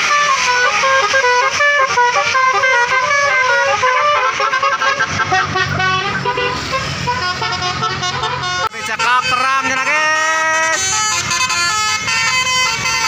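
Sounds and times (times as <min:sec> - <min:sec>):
musical air horn melody: 0:00.0 - 0:13.0
low engine rumble: 0:00.9 - 0:13.0.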